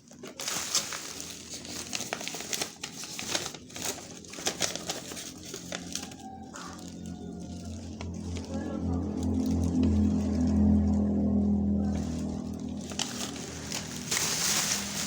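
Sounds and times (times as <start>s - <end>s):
packaging crinkling: 0.0s - 15.0s
plastic tearing: 0.0s - 15.0s.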